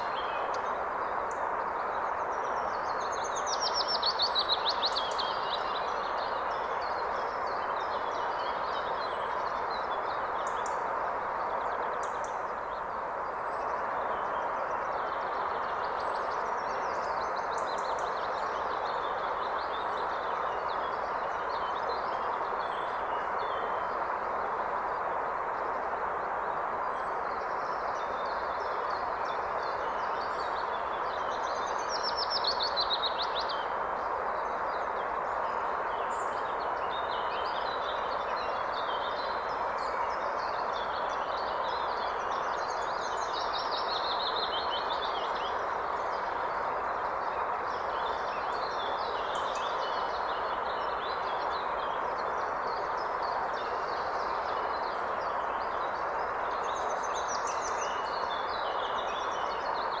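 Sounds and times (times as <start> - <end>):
songbirds singing: 0.0 - 60.0
stream rushing over rocks: 0.0 - 60.0.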